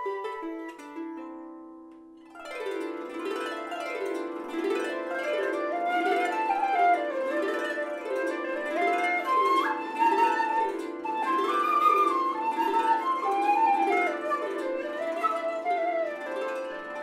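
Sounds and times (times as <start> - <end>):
bamboo flute slow melody: 0.0 - 1.2, 3.3 - 17.0
harp plucking arpeggios: 0.0 - 17.0.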